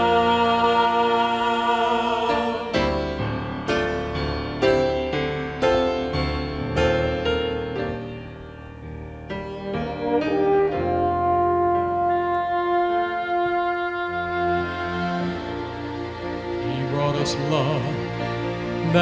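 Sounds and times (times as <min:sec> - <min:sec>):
held orchestral notes: 0:00.0 - 0:19.0
piano chords: 0:00.0 - 0:19.0.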